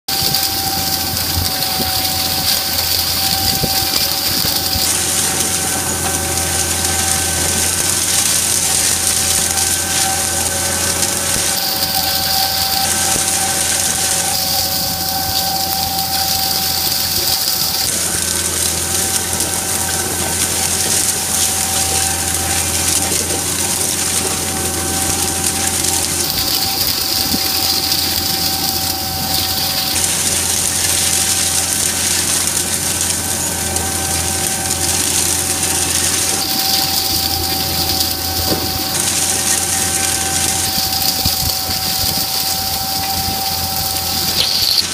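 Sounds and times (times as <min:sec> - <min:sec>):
steady machine whine: 0:00.0 - 0:44.9
tractor and seeder running: 0:00.0 - 0:44.9.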